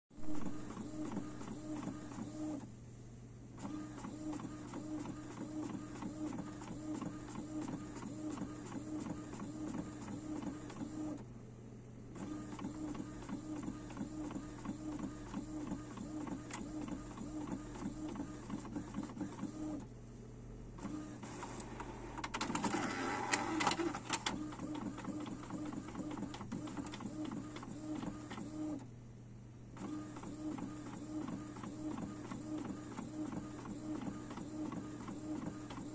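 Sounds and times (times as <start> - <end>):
inkjet printer printing: 0.2 - 2.7, 3.6 - 11.2, 12.2 - 19.9, 20.8 - 28.9, 29.8 - 35.9.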